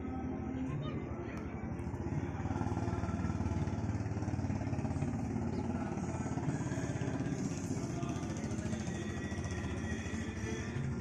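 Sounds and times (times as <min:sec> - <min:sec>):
engine running with fast pulse: 0:00.0 - 0:11.0.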